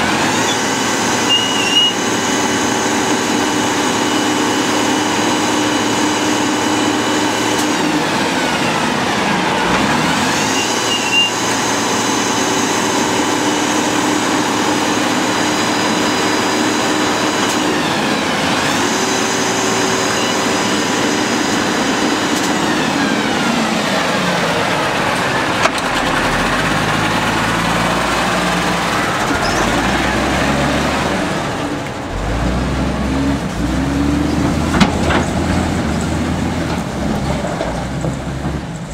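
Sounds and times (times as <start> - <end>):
garbage truck diesel engine running: 0.0 - 38.9.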